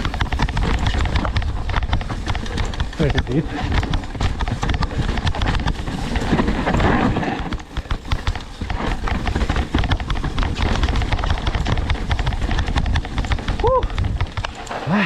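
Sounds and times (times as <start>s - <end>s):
wind rumble on microphone: 0.0s - 14.7s
mountain bike rattling on dirt trail: 0.0s - 15.0s.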